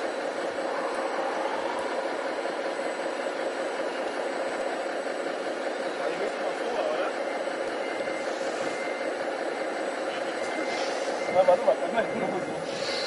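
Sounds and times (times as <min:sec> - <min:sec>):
model trucks mechanical hum: 0:00.0 - 0:13.0.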